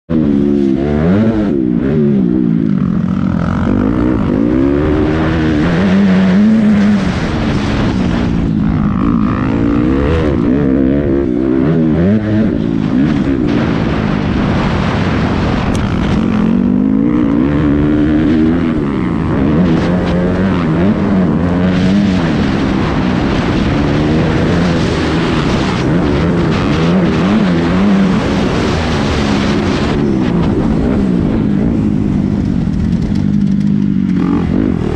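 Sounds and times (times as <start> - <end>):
motocross bike engine revving: 0.1 - 34.9
wind noise on microphone: 1.0 - 34.9.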